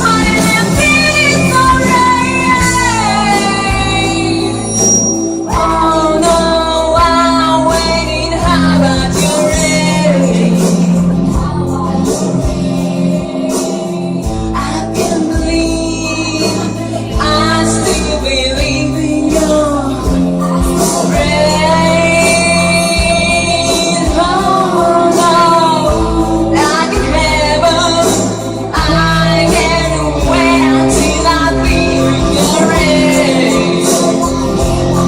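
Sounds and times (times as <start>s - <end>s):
instrumental backing with bass: 0.0s - 35.0s
person singing: 0.0s - 35.0s.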